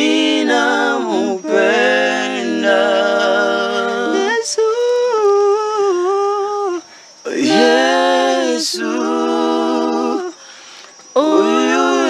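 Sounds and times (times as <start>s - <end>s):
unaccompanied gospel singing: 0.0s - 12.0s.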